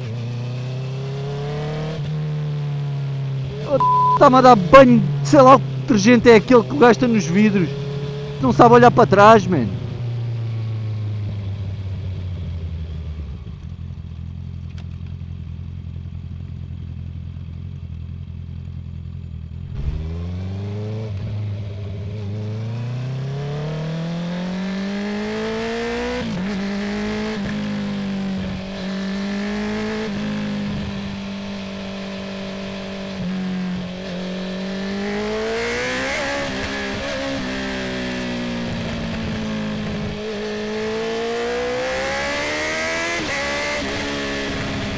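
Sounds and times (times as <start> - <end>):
motorcycle engine revving: 0.0 - 14.0, 15.6 - 44.9.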